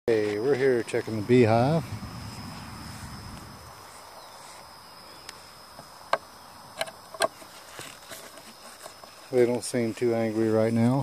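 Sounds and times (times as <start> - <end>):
high insect trill: 0.1 - 11.0.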